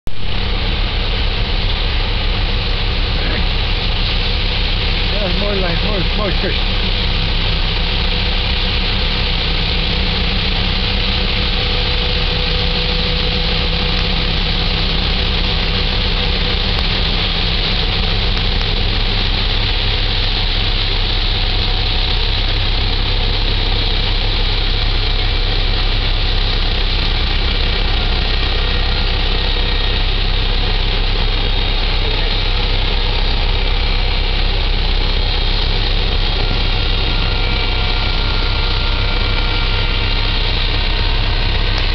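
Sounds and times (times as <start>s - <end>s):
ship diesel engine droning: 0.0s - 41.9s
steady hiss: 0.1s - 41.9s.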